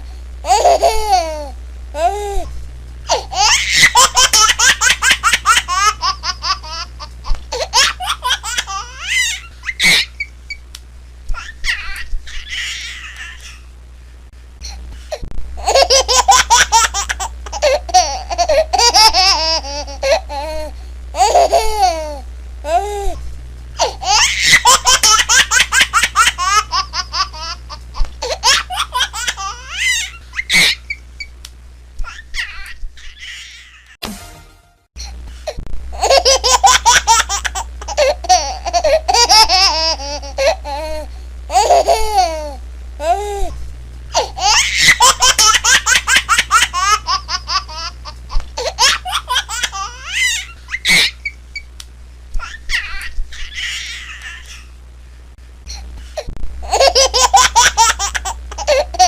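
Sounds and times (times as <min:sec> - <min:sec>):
baby laughing: 0:00.4 - 0:02.4, 0:03.1 - 0:10.3, 0:11.3 - 0:13.6, 0:15.6 - 0:23.2, 0:23.8 - 0:31.0, 0:32.0 - 0:34.0, 0:36.0 - 0:43.5, 0:44.2 - 0:51.4, 0:52.4 - 0:54.7, 0:56.6 - 0:59.0.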